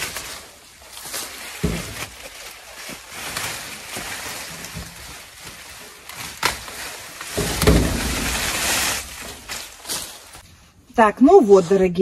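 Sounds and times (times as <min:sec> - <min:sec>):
canes and leaves rustling: 0:00.0 - 0:12.0.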